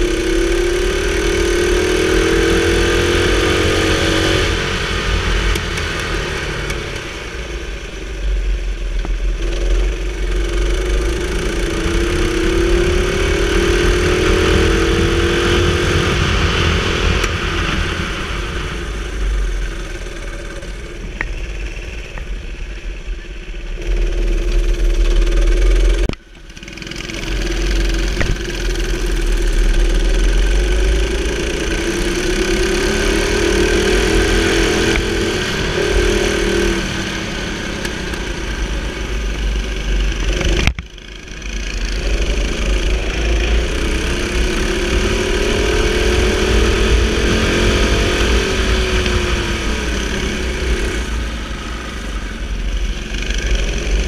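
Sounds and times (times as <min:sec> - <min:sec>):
wind rumble: 0:00.0 - 0:26.6, 0:27.3 - 0:54.0
go-kart engine revving: 0:00.0 - 0:54.0.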